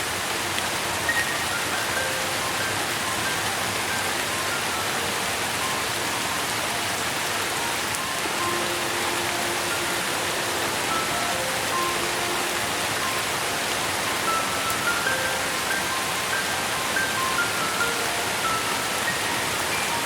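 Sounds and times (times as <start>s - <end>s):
steady rain hiss: 0.0s - 20.0s
soft musical notes: 1.0s - 20.0s.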